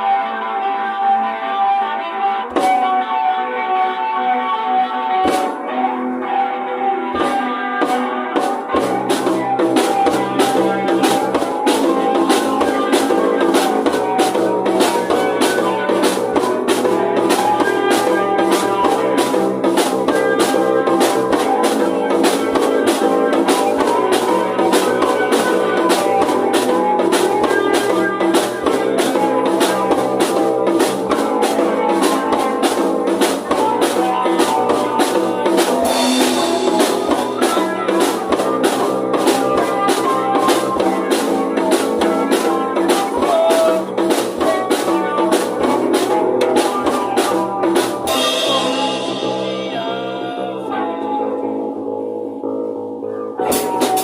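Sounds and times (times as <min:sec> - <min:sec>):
heavy rock band playing: 0:00.0 - 0:52.7, 0:53.3 - 0:54.0
bass guitar: 0:00.0 - 0:54.0
electric guitar: 0:00.0 - 0:54.0
drum kit: 0:02.4 - 0:52.7, 0:53.3 - 0:54.0.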